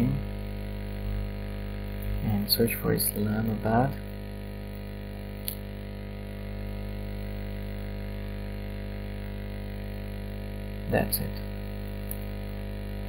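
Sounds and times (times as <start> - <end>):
low electrical hum with hiss: 0.0 - 13.0.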